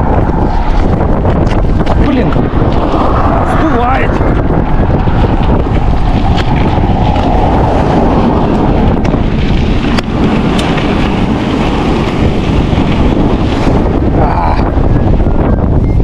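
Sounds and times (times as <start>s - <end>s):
wind blasting microphone: 0.0s - 16.0s.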